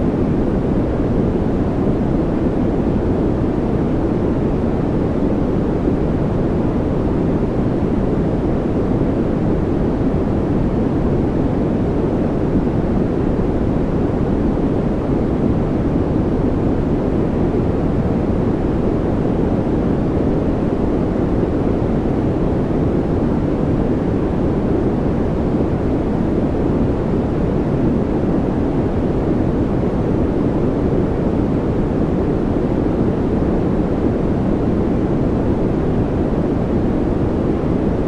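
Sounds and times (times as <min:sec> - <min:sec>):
deep white noise: 0:00.0 - 0:38.0.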